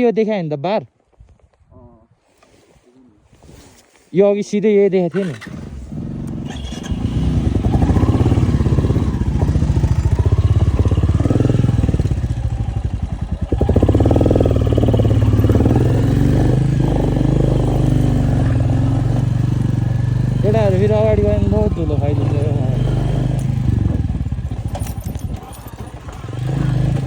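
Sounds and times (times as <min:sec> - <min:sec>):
motorcycle engine running: 0:05.1 - 0:27.0.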